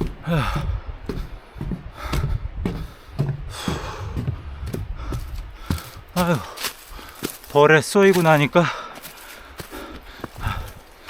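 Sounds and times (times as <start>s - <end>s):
heavy breathing: 0.0s - 7.5s, 8.3s - 11.0s
footsteps on a trail: 0.0s - 11.0s.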